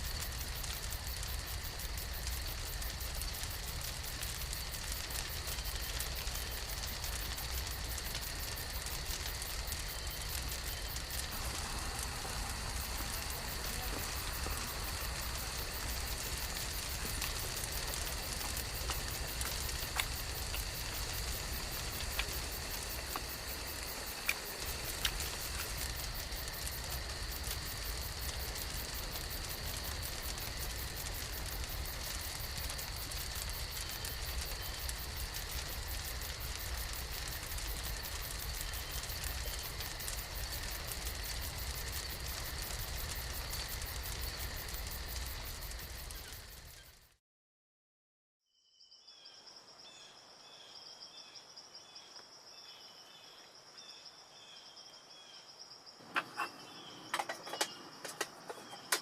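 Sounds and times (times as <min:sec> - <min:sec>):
campfire burning with hiss: 0:00.0 - 0:47.2, 0:49.3 - 0:59.0
fire crackling pops: 0:00.0 - 0:47.2, 0:56.0 - 0:59.0.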